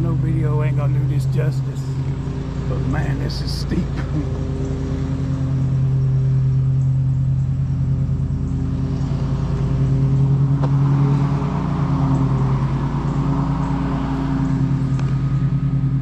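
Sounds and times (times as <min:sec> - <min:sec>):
car engine under load: 0:00.0 - 0:16.0.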